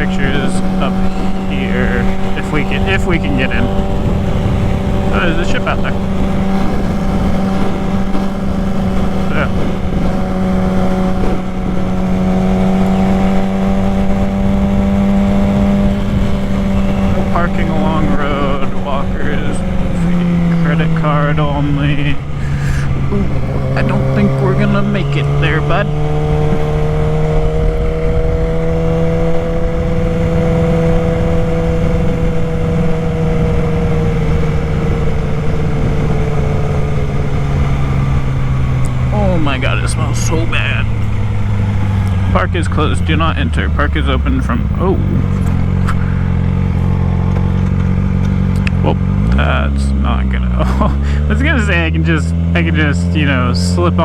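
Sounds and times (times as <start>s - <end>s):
wind rumble on microphone: 0.0s - 49.3s
motorcycle engine running: 0.0s - 54.0s.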